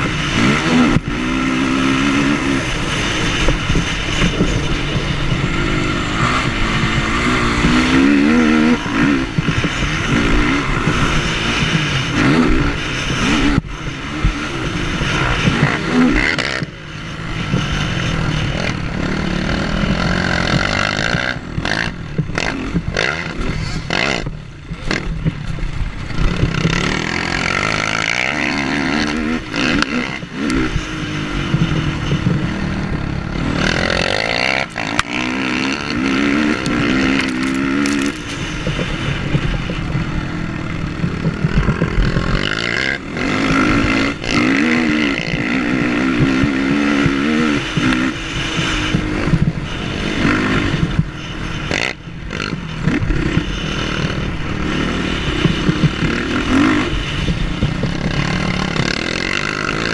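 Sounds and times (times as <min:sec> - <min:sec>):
quad engine ahead: 0:00.0 - 0:59.9
quad engine revving close up: 0:00.0 - 0:59.9.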